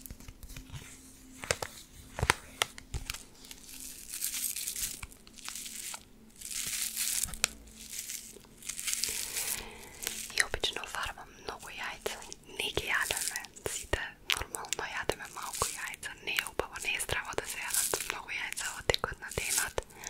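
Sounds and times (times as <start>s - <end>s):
paper packets crinkling: 0.0s - 20.0s.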